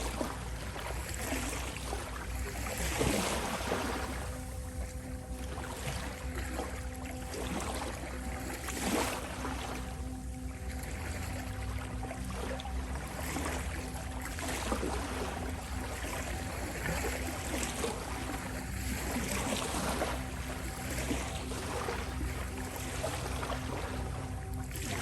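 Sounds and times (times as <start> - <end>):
steady drone tone: 0.0 - 25.0.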